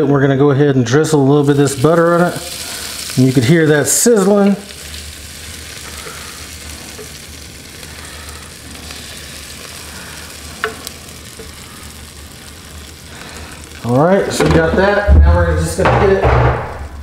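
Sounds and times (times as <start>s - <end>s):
butter sizzling: 0.9s - 17.0s.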